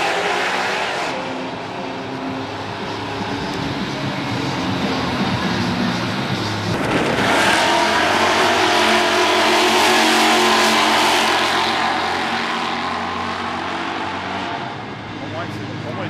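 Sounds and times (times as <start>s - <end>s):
car accelerating at full throttle: 0.0s - 16.0s.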